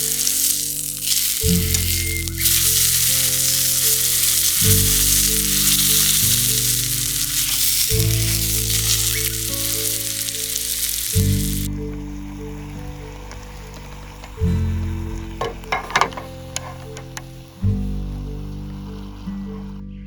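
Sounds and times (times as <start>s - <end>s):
meat sizzling on a grill: 0.0s - 19.8s
background music with slow chords: 0.0s - 20.0s.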